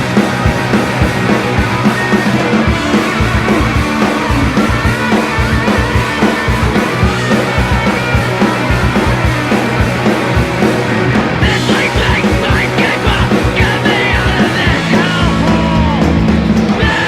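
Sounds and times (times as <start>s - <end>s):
bass guitar: 0.0s - 17.0s
distorted electric guitars: 0.0s - 17.0s
fast driving drum beat: 0.0s - 17.0s.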